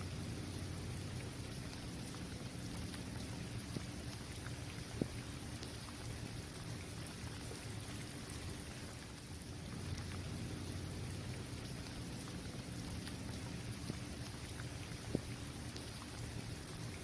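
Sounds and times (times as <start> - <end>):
rain falling on pavement: 0.0 - 17.0.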